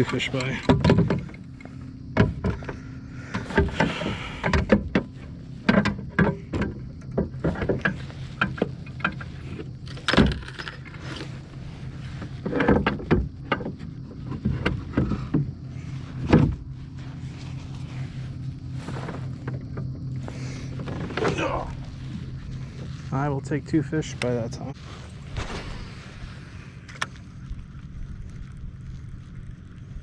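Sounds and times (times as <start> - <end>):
gear knocking and rattling: 0.0 - 30.0
steady low hum: 0.0 - 30.0.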